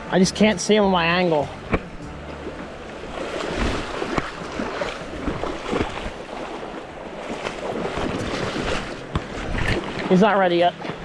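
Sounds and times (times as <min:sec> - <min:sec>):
stream water rushing: 0:00.0 - 0:11.0
water splashing: 0:00.0 - 0:11.0.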